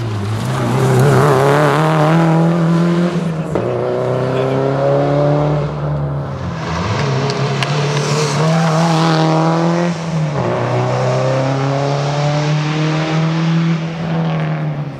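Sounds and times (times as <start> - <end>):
rally car engine accelerating: 0.0 - 14.9.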